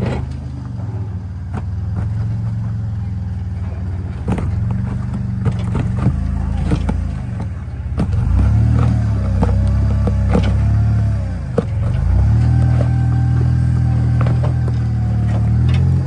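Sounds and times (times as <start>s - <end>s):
truck engine running at low revs: 0.0s - 16.0s.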